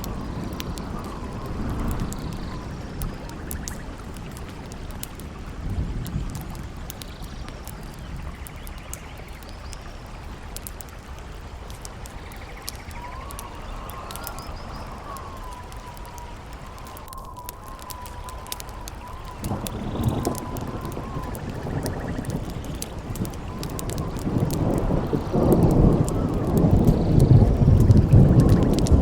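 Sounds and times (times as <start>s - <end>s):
campfire crackling and popping: 0.0s - 29.0s
howling wind whistle: 0.0s - 29.0s.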